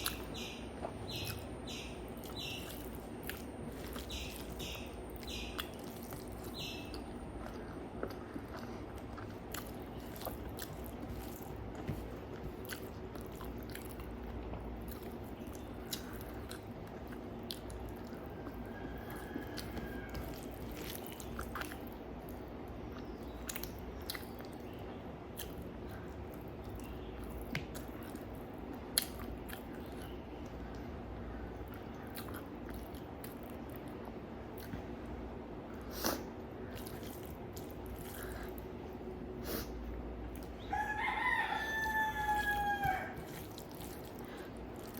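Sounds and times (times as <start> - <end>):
person chewing with mouth clicks: 0.0 - 24.7, 25.3 - 30.9, 31.6 - 34.9, 35.7 - 38.8, 42.5 - 44.9
steady low hum: 0.0 - 44.9.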